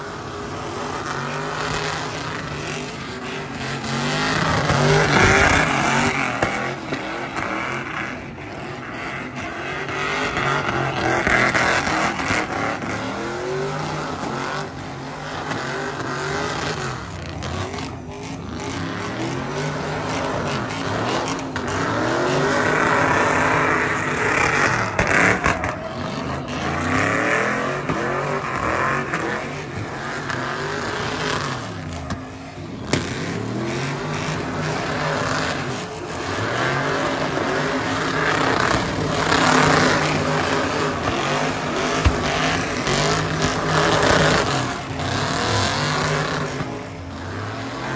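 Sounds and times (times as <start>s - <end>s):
tires screeching in a burnout: 0.0s - 47.9s
truck engines revving: 0.0s - 47.9s.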